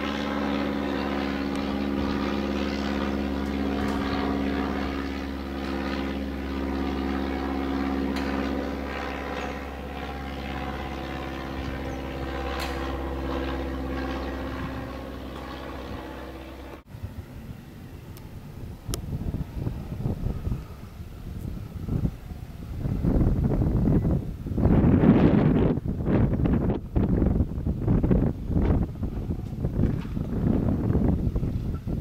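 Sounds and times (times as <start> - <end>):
light airplane engine drone: 0.0 - 32.0.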